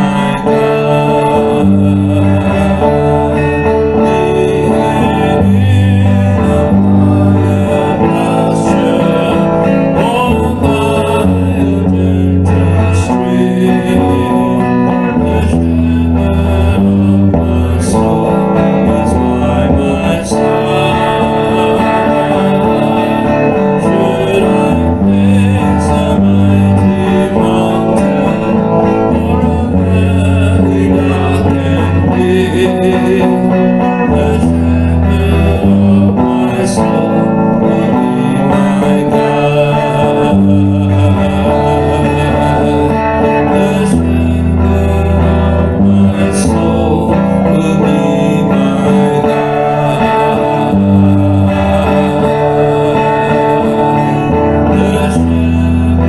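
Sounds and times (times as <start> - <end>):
steady low bass line: 0.0 - 53.0
electric guitar melody: 0.0 - 56.0.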